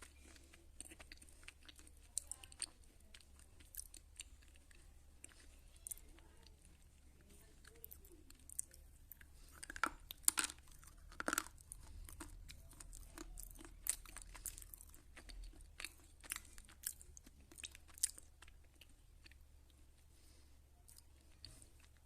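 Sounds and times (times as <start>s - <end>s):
person chewing slate pencil: 0.0s - 20.1s, 20.8s - 22.0s.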